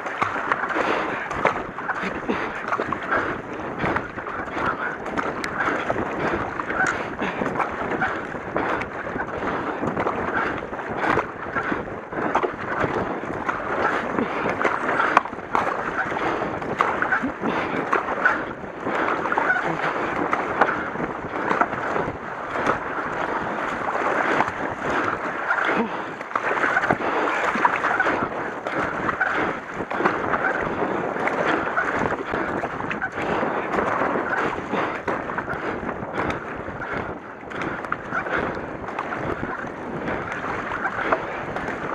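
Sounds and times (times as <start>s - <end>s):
paddle strokes splashing: 0.0s - 41.9s
water rushing past a hull: 0.0s - 41.9s.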